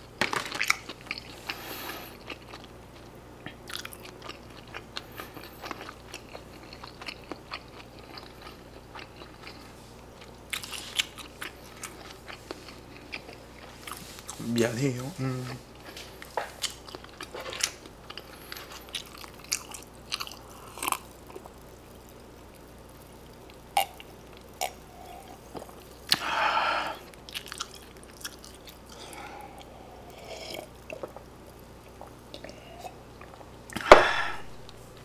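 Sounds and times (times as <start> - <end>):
man chewing food: 0.0 - 14.4, 15.5 - 35.0.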